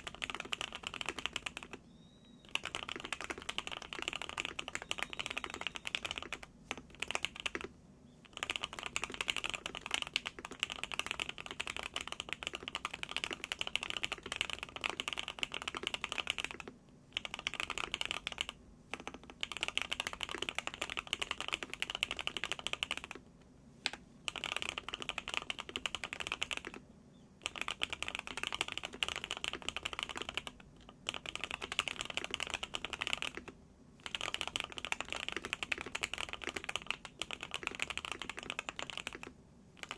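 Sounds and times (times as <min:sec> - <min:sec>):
fast typing on mechanical keyboard: 0:00.0 - 0:01.8, 0:02.5 - 0:07.7, 0:08.3 - 0:23.2, 0:24.3 - 0:26.8, 0:27.4 - 0:39.9.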